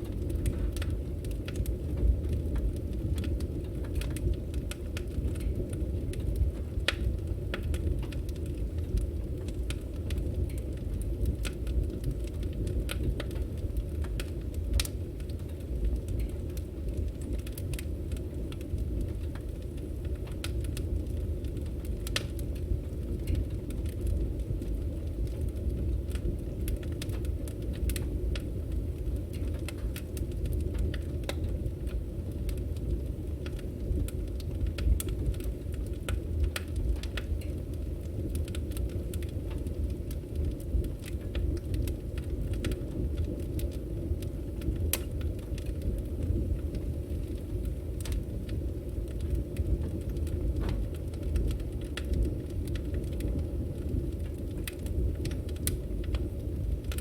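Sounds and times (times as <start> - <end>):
logs crackling and popping: 0.0 - 57.0
low fire rumble: 0.0 - 57.0.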